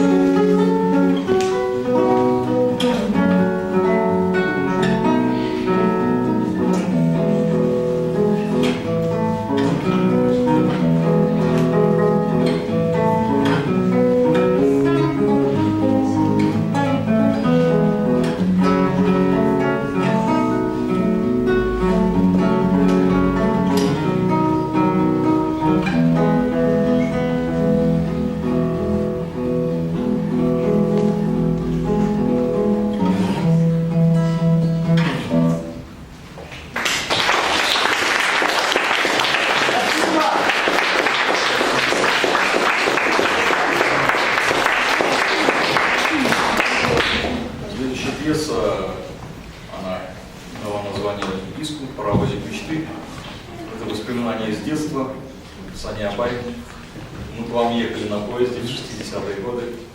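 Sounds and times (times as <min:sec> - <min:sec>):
acoustic guitar music: 0:00.0 - 0:59.9.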